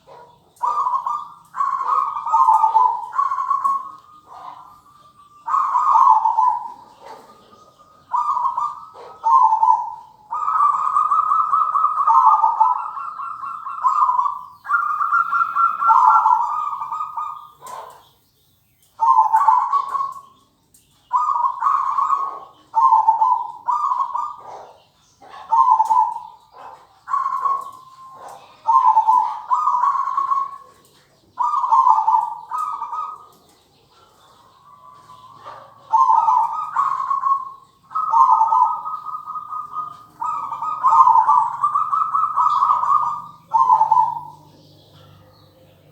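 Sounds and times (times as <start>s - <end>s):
dove cooing: 0.0s - 18.2s, 18.8s - 45.9s.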